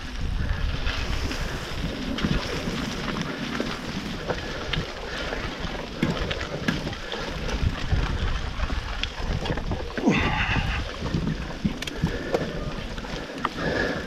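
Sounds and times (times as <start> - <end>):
bike tyre rumbling over trail: 0.0 - 14.0
wind on microphone: 0.0 - 14.0.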